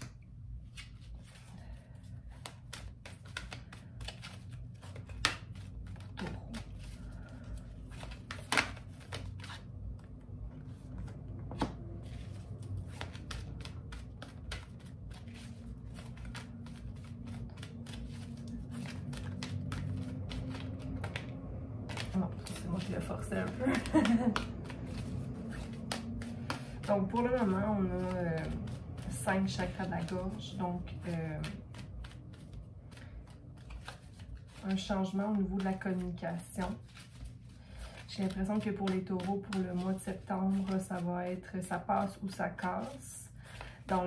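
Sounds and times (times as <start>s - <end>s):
cards shuffled by hand: 0.0s - 44.0s.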